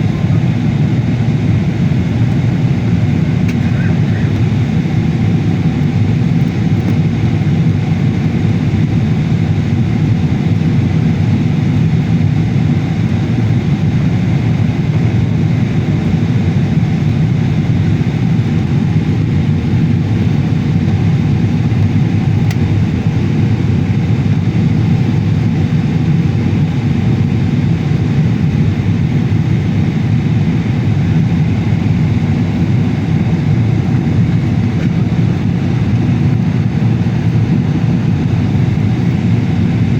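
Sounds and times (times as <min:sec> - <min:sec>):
jet airliner engine drone: 0:00.0 - 0:39.9.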